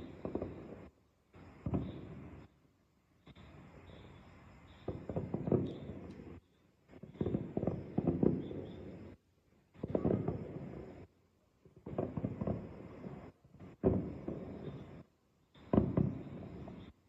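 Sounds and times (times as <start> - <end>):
distant fireworks booms and crackles: 0.0 - 17.0.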